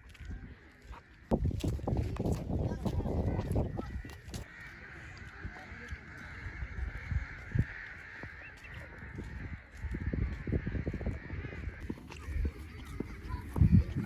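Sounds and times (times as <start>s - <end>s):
flock of birds chattering: 0.0s - 14.0s.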